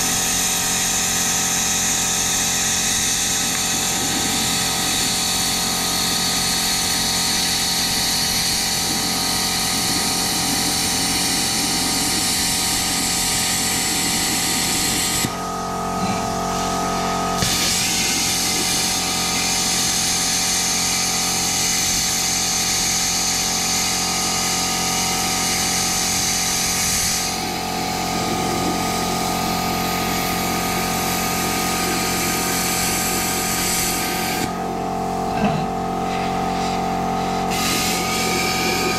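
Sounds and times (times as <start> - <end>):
steady hum: 0.0 - 22.4, 23.4 - 38.9
plasma cutter hissing: 0.0 - 38.9.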